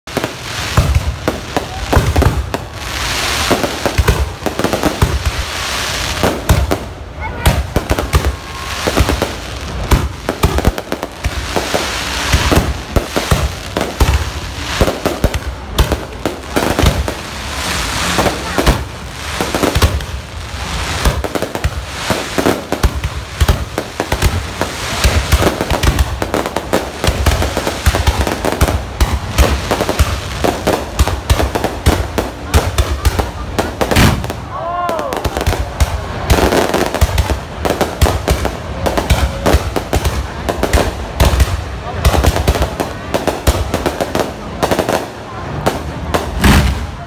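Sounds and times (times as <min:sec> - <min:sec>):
fireworks crackle: 0:00.0 - 0:47.0
fireworks bangs and booms: 0:00.1 - 0:47.0.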